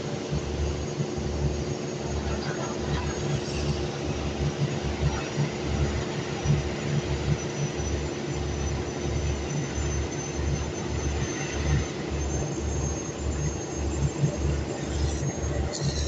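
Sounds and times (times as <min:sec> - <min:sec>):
machinery pulsing rumble: 0:00.0 - 0:16.0
machinery steady hum: 0:00.0 - 0:16.0.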